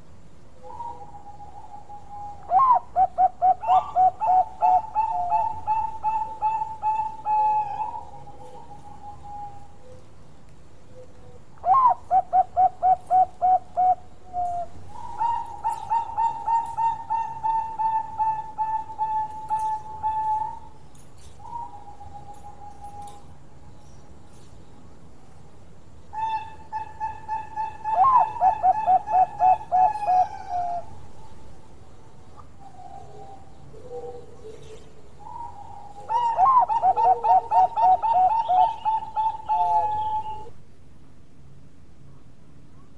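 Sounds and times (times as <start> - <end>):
dove cooing: 0.6 - 10.1, 10.9 - 23.4, 26.1 - 31.3, 32.3 - 40.6.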